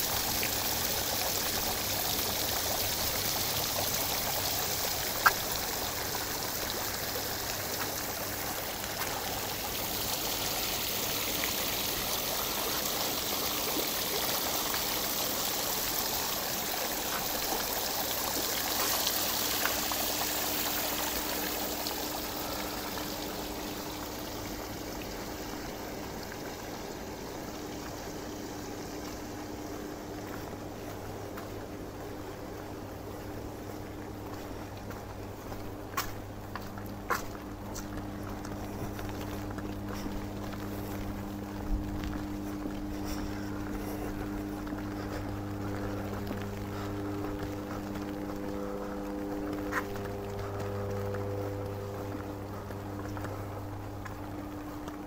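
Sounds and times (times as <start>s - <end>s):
rain and running water: 0.0s - 55.0s.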